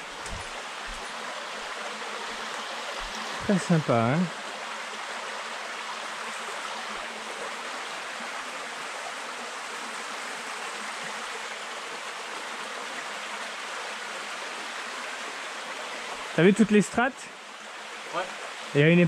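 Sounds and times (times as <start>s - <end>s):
stream rushing over rock: 0.0s - 19.0s.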